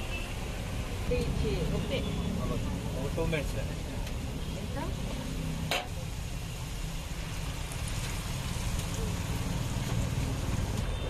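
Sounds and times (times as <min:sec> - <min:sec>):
potatoes sizzling in hot oil: 0:00.4 - 0:11.0.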